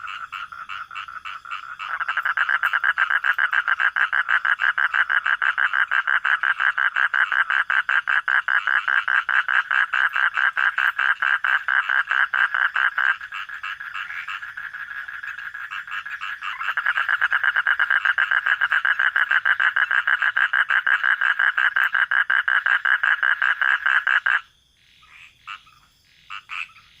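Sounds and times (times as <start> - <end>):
faint short frog calls: 0.0 - 27.0
frog croaking: 0.0 - 27.0.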